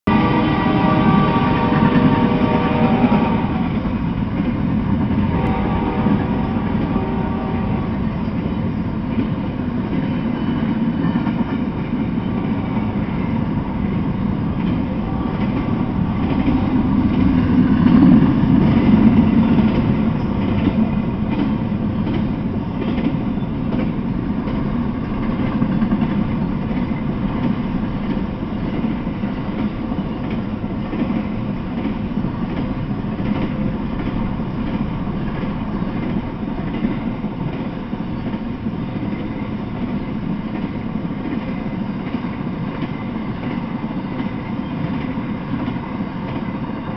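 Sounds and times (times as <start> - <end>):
train wheels rumbling on track: 0.0 - 46.9.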